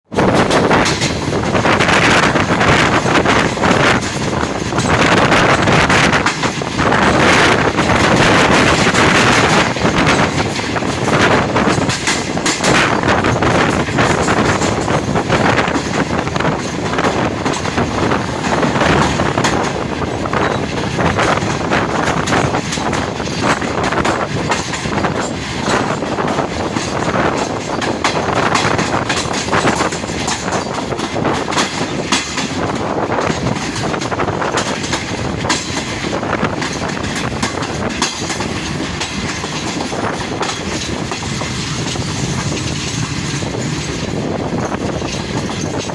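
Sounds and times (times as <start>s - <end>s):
train wheels clattering over rail joints: 0.1s - 45.9s.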